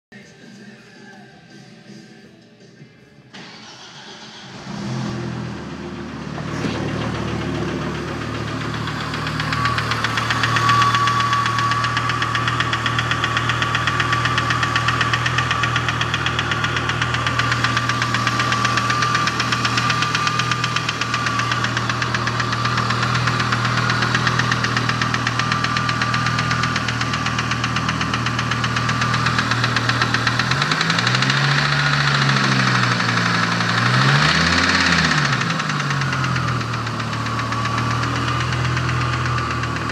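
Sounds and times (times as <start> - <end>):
car engine knocking rattle: 5.9 - 39.9.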